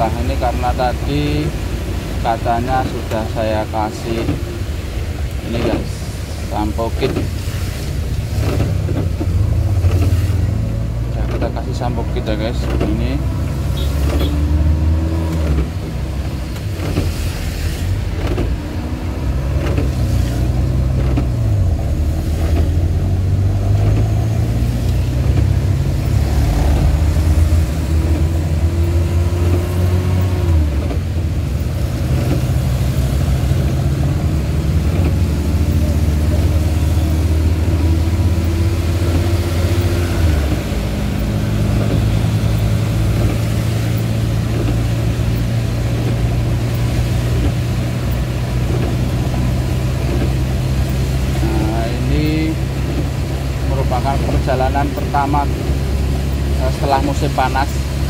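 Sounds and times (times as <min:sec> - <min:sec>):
heavy rain on car body: 0:00.0 - 0:58.0.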